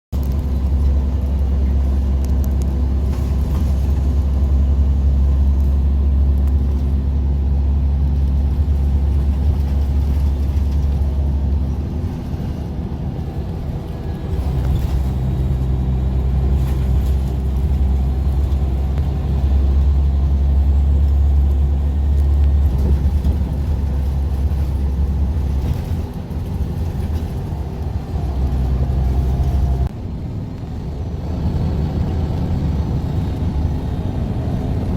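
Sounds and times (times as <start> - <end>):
bus engine and road noise: 0.0 - 34.9.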